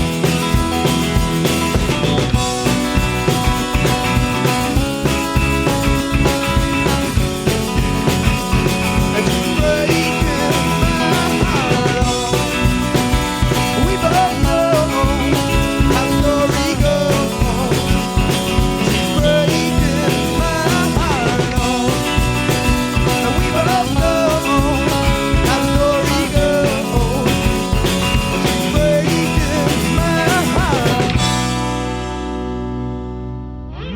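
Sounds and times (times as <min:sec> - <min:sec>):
drums: 0:00.0 - 0:33.3
bass: 0:00.0 - 0:33.9
guitars: 0:00.0 - 0:33.9
sliding lead melody: 0:00.0 - 0:33.9.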